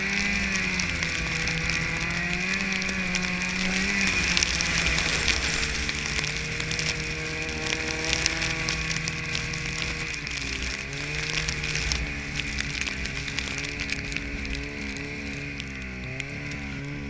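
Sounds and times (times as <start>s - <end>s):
small clicks: 0.0s - 17.0s
snowmobile engine running: 0.0s - 17.0s.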